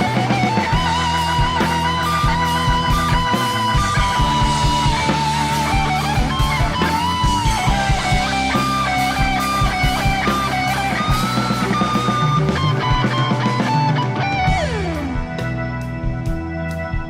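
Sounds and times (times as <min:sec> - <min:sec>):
electric guitar lead melody: 0:00.0 - 0:17.0
instrumental rock music: 0:00.0 - 0:17.0.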